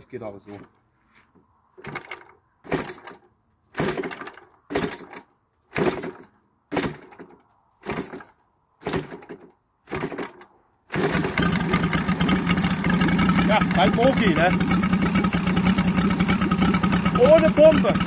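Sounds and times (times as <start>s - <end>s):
engine turning over and starting: 1.8s - 18.0s.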